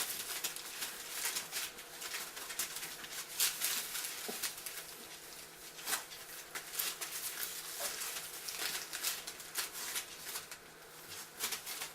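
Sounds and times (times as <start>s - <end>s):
puppies moving about: 0.0s - 11.9s.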